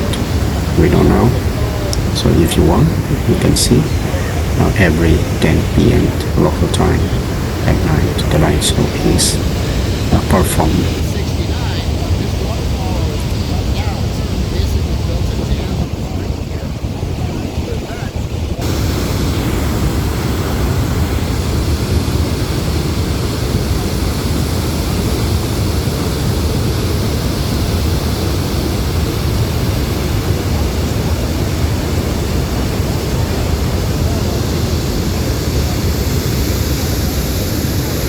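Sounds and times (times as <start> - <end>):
waterfall rushing: 0.0 - 16.1, 18.6 - 38.0.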